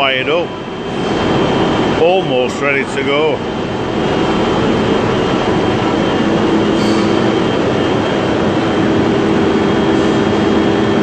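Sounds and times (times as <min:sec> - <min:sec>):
machine running with hum and whine: 0:00.0 - 0:11.0.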